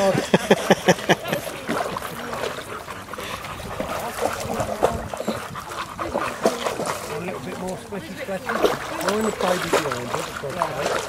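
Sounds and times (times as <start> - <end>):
water sloshing and dripping: 0.0 - 11.0
dog splashing in water: 0.8 - 11.0.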